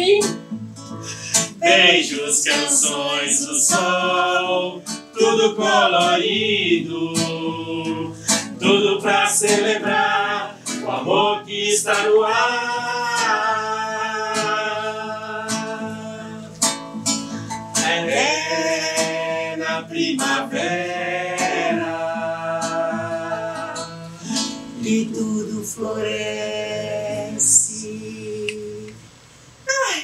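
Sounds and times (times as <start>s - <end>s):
musical accompaniment: 0.0s - 25.1s
man and woman singing: 1.1s - 29.1s.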